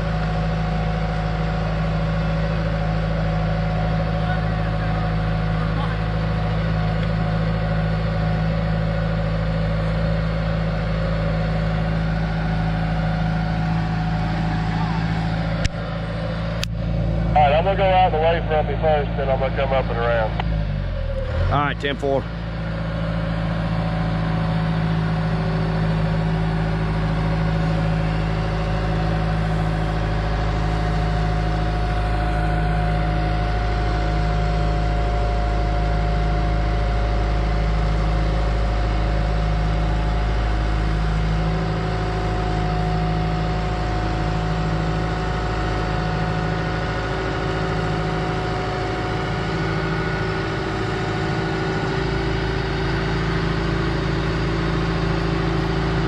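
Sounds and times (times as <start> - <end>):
excavator diesel engine running: 0.0 - 56.0
steady whine: 10.8 - 56.0.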